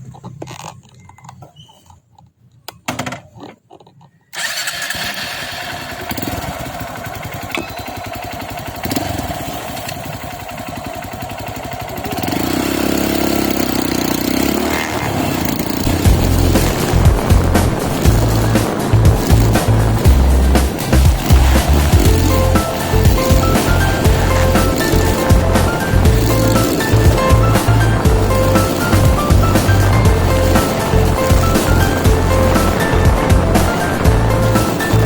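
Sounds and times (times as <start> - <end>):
motorcycle engine running: 4.4 - 35.0.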